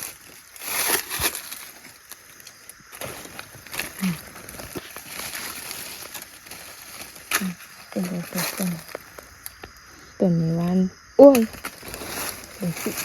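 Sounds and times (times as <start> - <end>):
rustling of dry leaves and twigs: 0.0 - 13.0.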